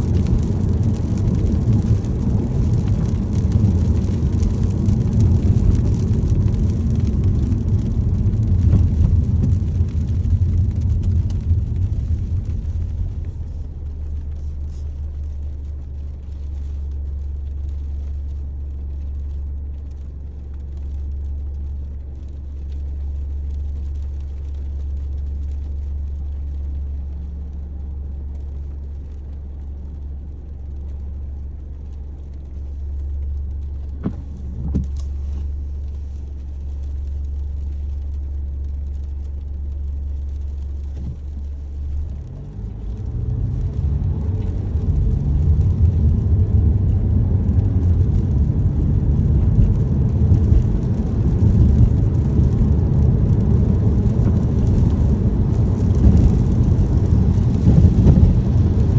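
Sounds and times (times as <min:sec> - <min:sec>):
car cabin low hum: 0:00.0 - 0:58.9
car road noise rumble: 0:00.0 - 0:58.9.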